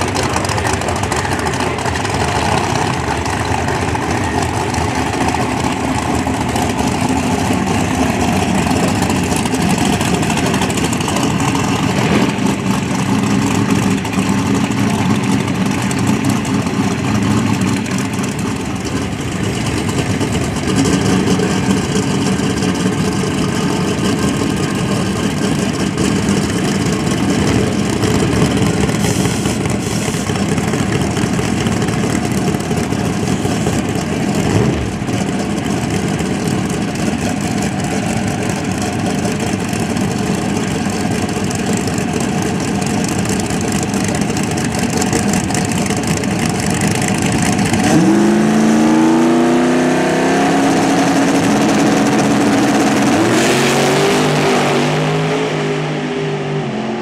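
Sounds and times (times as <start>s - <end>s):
race car engines idling: 0.0s - 57.0s.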